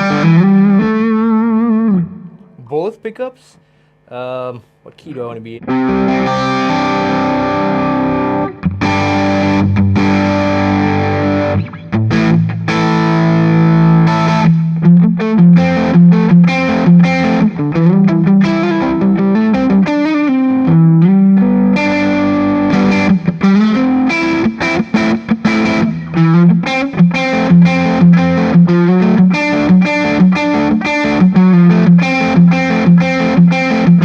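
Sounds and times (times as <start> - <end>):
overdriven electric guitar: 0.0 - 2.6, 5.1 - 34.0.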